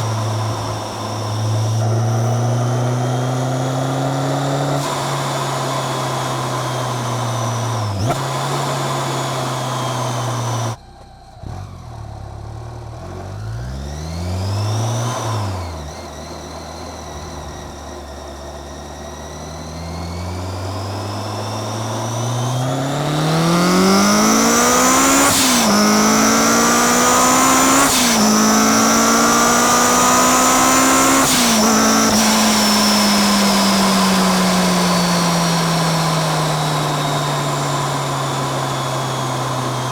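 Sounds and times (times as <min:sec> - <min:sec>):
car engine revving: 0:00.0 - 0:10.8, 0:11.4 - 0:39.9
supercharger whine: 0:00.0 - 0:39.9.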